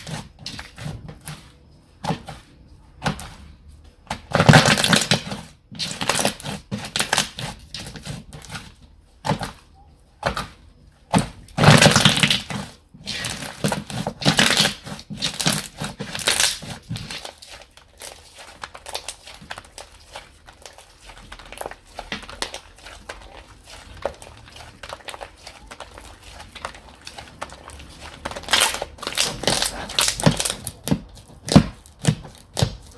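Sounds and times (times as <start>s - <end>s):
slime crackling and squishing: 0.0s - 32.9s.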